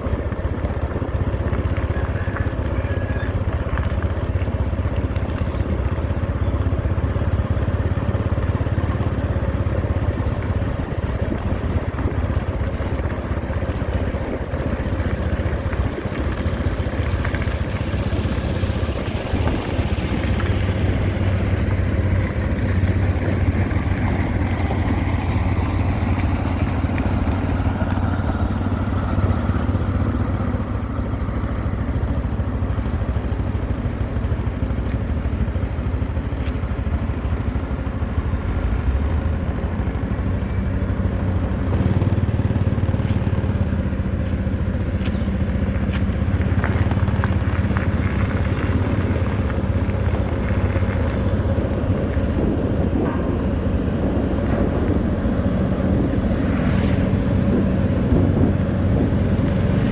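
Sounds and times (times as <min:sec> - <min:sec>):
diesel machinery engines humming: 0:00.0 - 0:59.9.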